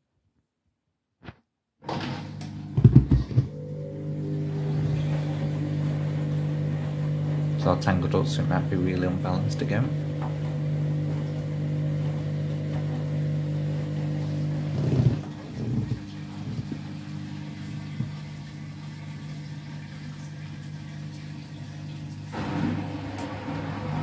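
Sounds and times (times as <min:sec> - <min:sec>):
washing machine drum spinning: 0:01.9 - 0:24.0.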